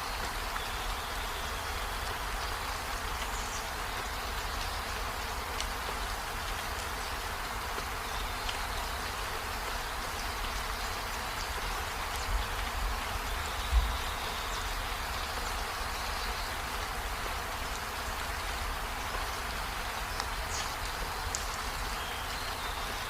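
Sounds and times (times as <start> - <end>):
rain falling on trees: 0.0 - 23.0.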